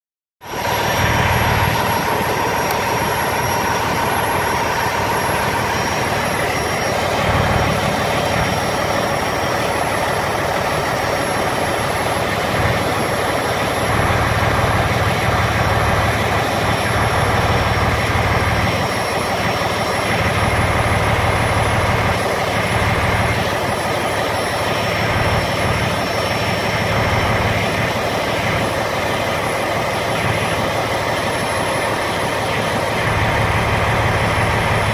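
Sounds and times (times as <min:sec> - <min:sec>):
diesel engine running: 0:00.4 - 0:34.9
fan noise: 0:00.4 - 0:34.9.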